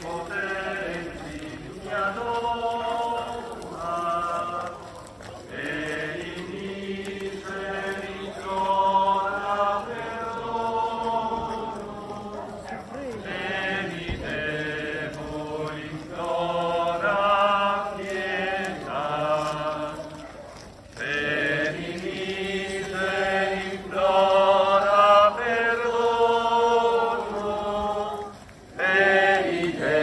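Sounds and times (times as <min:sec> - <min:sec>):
voices singing a hymn: 0:00.0 - 0:30.0.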